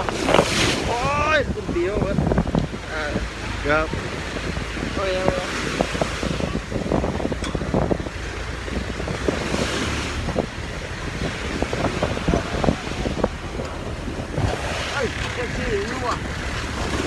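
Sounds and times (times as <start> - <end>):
waves washing in: 0.0 - 17.0
wind buffeting microphone: 0.0 - 17.0.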